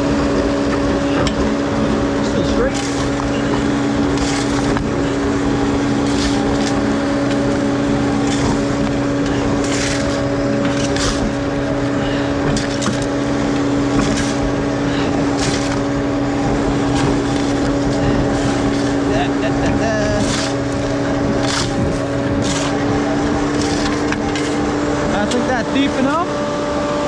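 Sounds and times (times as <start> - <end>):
auger crunching through rock: 0.0 - 26.4
diesel engine running under load: 0.0 - 27.0.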